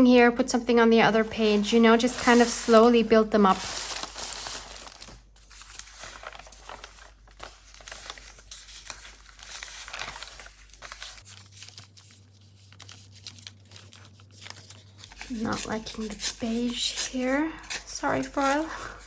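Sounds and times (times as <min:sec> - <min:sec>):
paper rustling and crinkling: 0:01.1 - 0:19.0.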